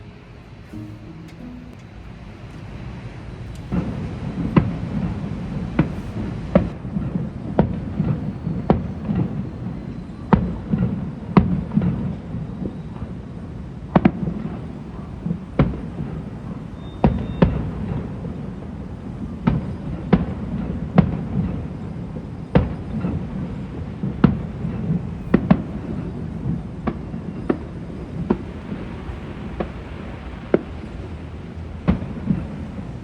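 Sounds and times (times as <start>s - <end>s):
fireworks bangs and pops: 3.6s - 33.0s.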